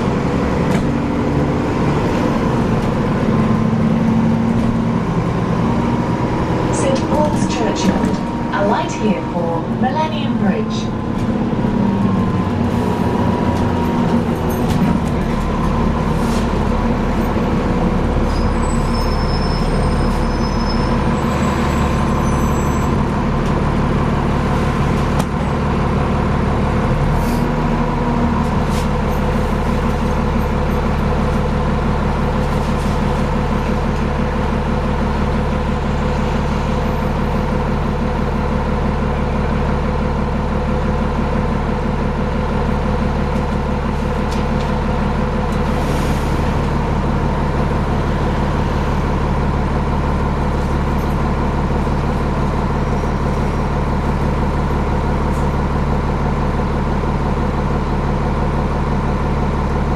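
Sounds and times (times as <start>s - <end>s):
bus engine whirring whine: 0.0s - 59.9s.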